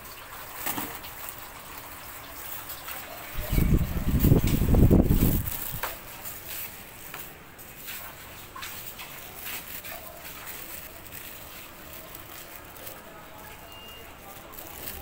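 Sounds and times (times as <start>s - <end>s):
faint clicks and rustles: 0.1s - 15.0s.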